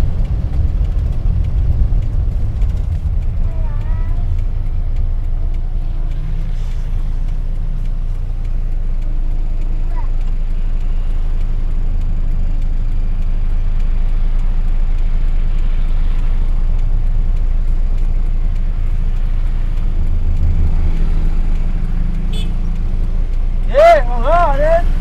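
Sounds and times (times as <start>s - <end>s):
engine droning: 0.0s - 25.0s
road noise: 0.0s - 25.0s.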